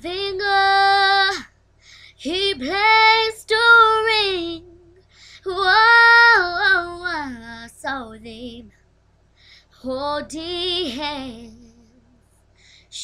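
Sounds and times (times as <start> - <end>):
girl singing unaccompanied: 0.0 - 8.7, 9.8 - 12.0.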